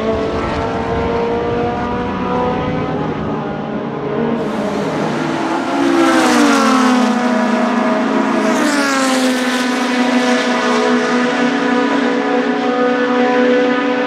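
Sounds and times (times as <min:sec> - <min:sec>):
racing car engine passing by: 0:00.0 - 0:14.0.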